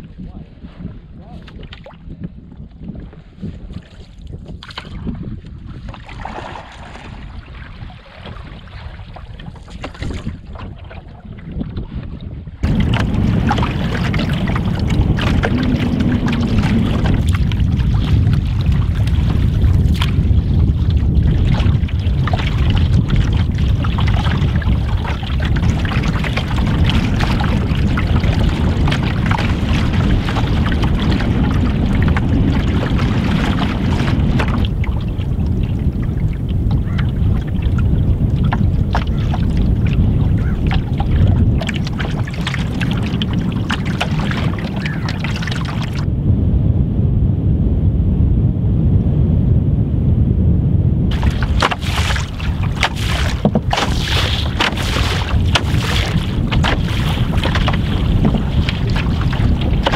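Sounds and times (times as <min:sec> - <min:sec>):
water splashing against canoe: 0:00.0 - 0:46.1, 0:51.1 - 0:59.9
wind rumble on microphone: 0:00.0 - 0:59.9
canoe paddle strokes: 0:02.9 - 0:46.1, 0:51.1 - 0:59.9.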